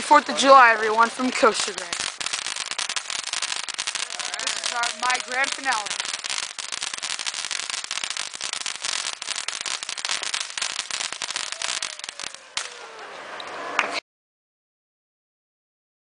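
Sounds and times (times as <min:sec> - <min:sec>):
fireworks crackling barrage: 0:00.0 - 0:14.0
fireworks fizzing and whistling: 0:00.0 - 0:14.0.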